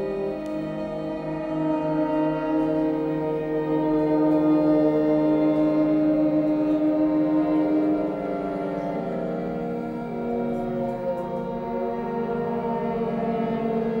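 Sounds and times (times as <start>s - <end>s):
orchestral drone chord: 0.0s - 14.0s.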